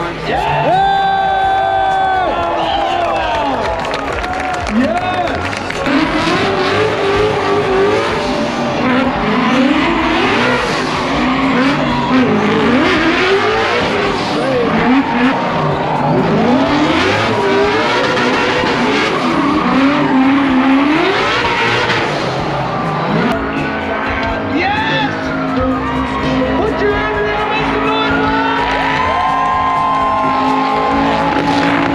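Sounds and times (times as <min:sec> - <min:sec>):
tires squealing: 0:00.0 - 0:31.9
car engine revving hard: 0:04.7 - 0:31.9.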